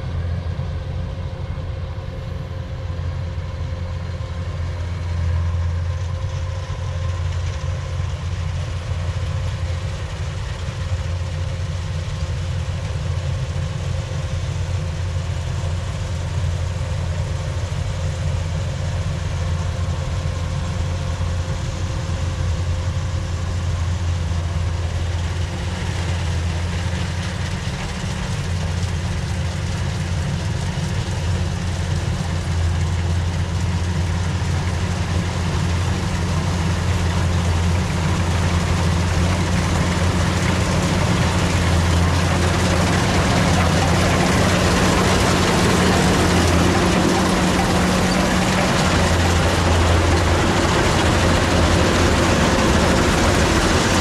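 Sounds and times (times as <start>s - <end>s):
harvester engine hum: 0.0s - 54.0s.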